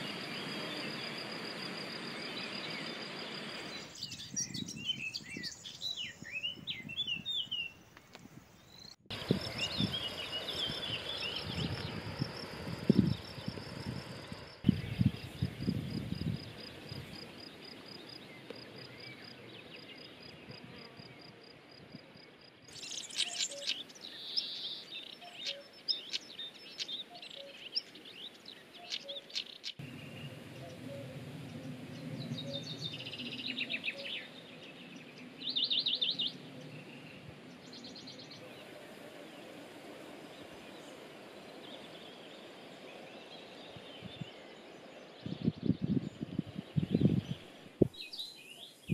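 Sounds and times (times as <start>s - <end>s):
small songbirds chirping: 0.0s - 48.9s.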